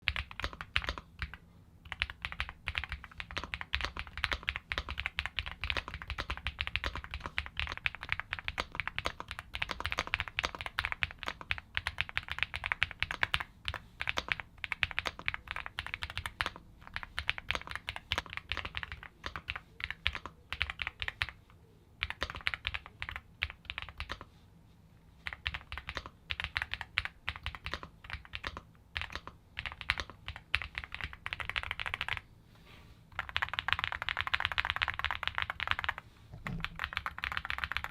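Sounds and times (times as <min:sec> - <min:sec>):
mechanical keyboard typing: 0:00.0 - 0:21.4, 0:22.0 - 0:24.3, 0:25.2 - 0:32.2, 0:33.1 - 0:37.9.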